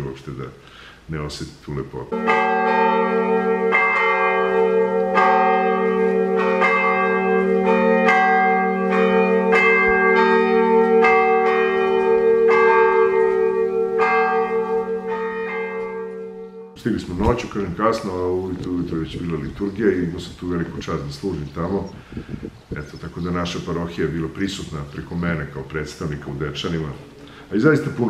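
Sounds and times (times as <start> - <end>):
church bells ringing: 2.0 - 22.1, 22.8 - 28.0.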